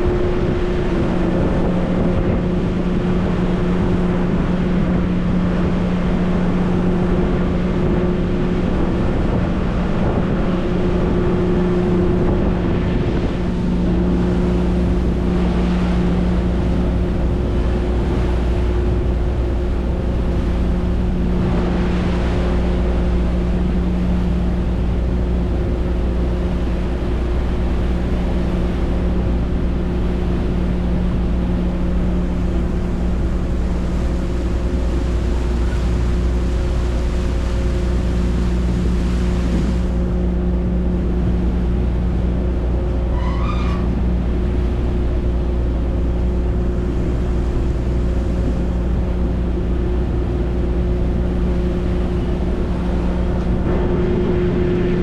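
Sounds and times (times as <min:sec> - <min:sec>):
ferry engine drone: 0:00.0 - 0:55.0
water wash: 0:00.0 - 0:55.0
wind noise: 0:00.0 - 0:55.0.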